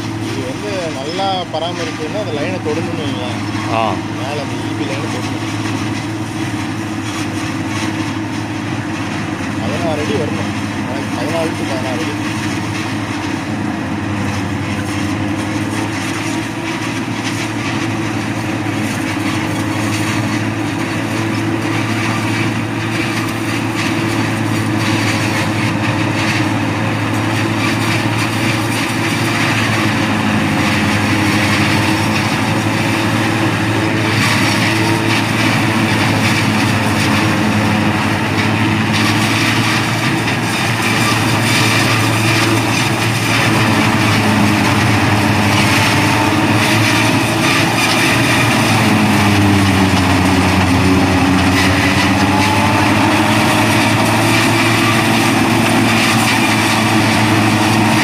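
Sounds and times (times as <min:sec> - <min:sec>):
forage harvester engine drone: 0:00.0 - 0:58.0
rushing noise from cutter: 0:00.0 - 0:58.0.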